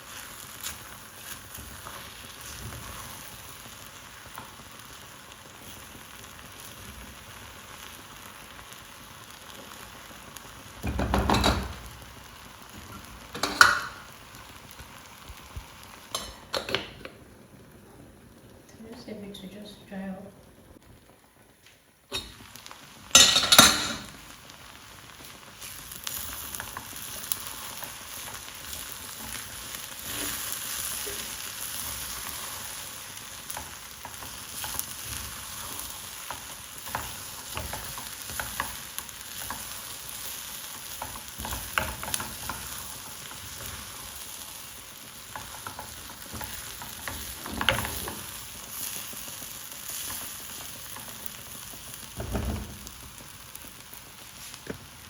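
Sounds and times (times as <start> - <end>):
rice sizzling in a pot: 0.0 - 55.0.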